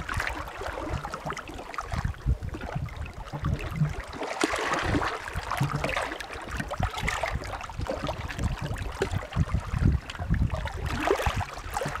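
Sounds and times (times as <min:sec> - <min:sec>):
small waves lapping on shore: 0:00.0 - 0:12.0.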